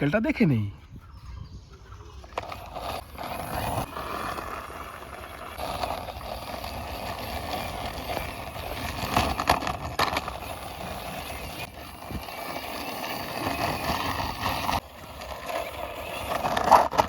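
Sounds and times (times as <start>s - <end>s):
toy truck wheels scraping concrete: 1.9s - 17.0s.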